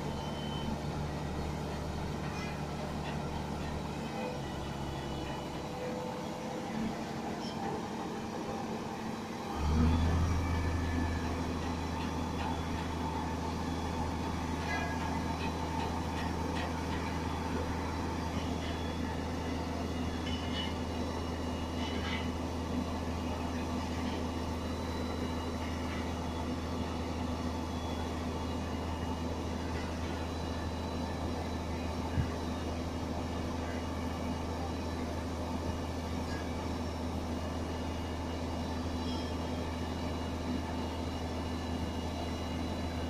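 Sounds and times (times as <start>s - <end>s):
diesel engine droning: 0.0s - 43.0s.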